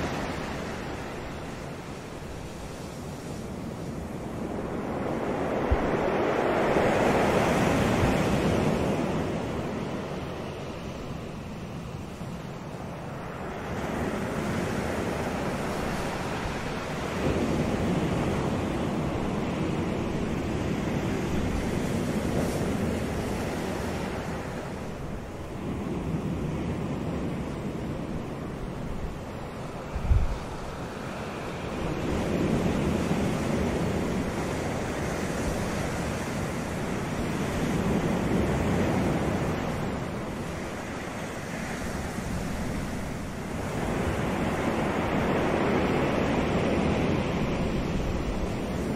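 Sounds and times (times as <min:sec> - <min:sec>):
ocean surf on rocks: 0:00.0 - 0:48.9.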